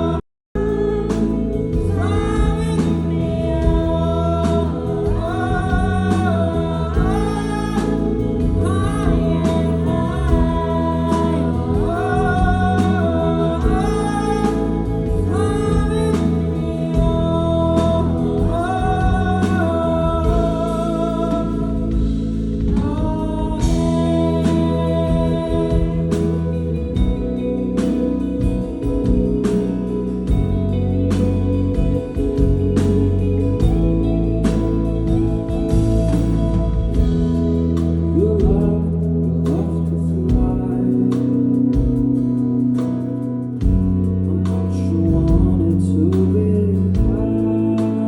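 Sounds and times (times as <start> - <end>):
live rock band playing: 0.0 - 48.0
man singing: 0.0 - 48.0.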